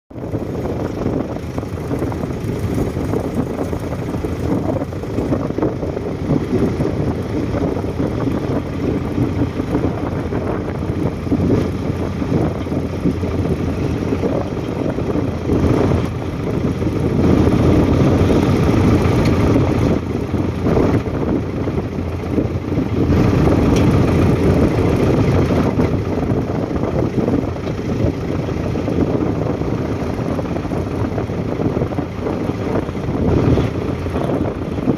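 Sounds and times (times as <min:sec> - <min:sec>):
bulldozer engine running: 0:00.1 - 0:34.9.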